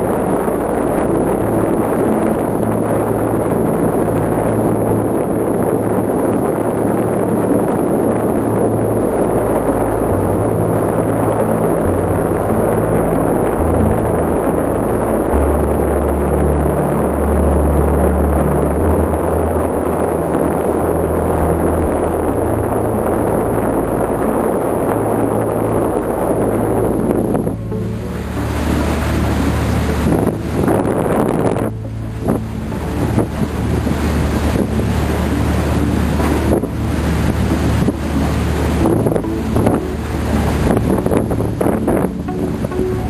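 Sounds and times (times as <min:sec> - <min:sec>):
boat rushing through sea ice: 0:00.0 - 0:43.0
slow background music: 0:00.0 - 0:43.0
wind on microphone: 0:00.0 - 0:43.0.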